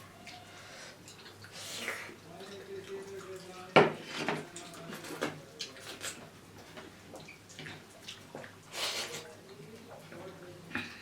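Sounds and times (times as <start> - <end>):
people eating: 0.0 - 11.0.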